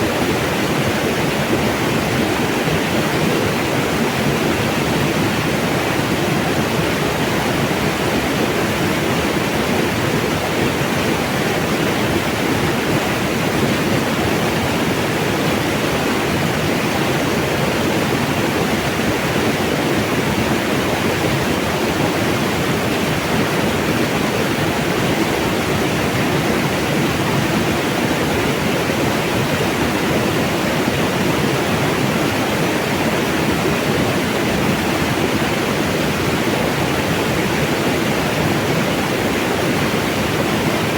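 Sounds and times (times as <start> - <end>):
mountain water rushing: 0.0 - 40.9.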